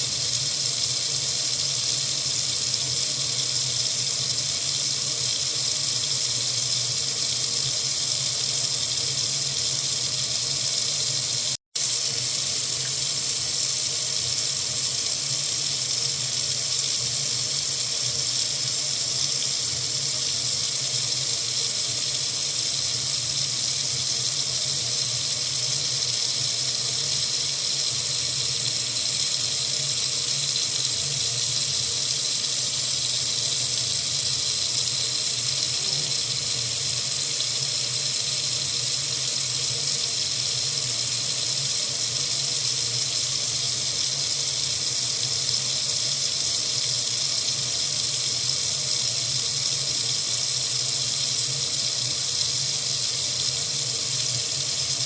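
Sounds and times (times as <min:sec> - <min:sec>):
water running from a faucet: 0:00.0 - 0:55.0.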